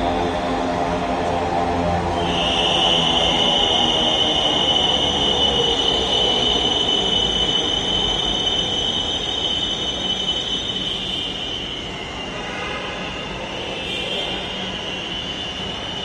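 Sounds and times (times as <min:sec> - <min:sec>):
train cars rumbling: 0:00.0 - 0:16.0
wheels and brakes squealing: 0:02.0 - 0:16.0.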